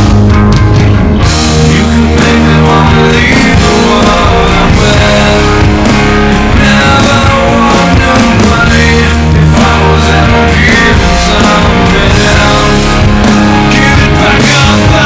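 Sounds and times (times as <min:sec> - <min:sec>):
guitars: 0:00.0 - 0:15.0
steady drums: 0:00.0 - 0:15.0.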